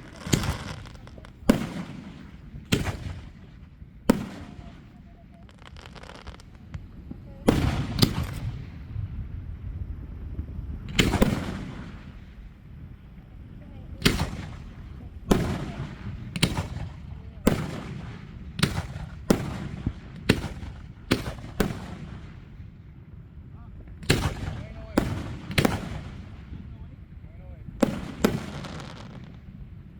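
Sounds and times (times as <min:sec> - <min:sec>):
fireworks booming with echo: 0:00.0 - 0:29.9.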